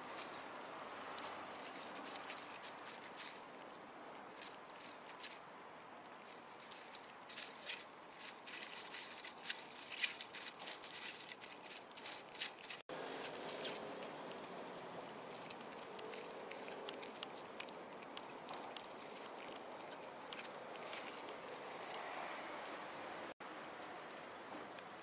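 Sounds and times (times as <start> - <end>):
kittens chewing and lapping: 0.0 - 25.0.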